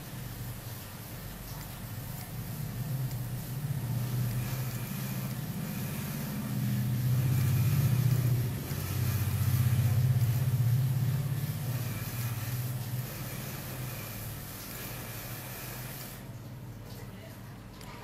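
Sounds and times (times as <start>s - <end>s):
low motor rumble: 1.8s - 18.0s.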